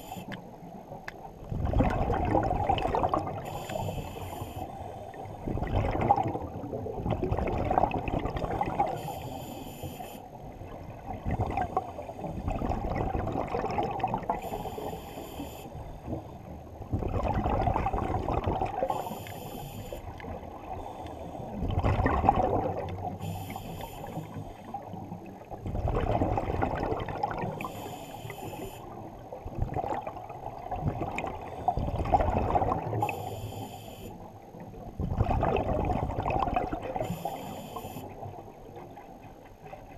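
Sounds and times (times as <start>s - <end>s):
exhaled air bubbling underwater: 0.0s - 39.9s.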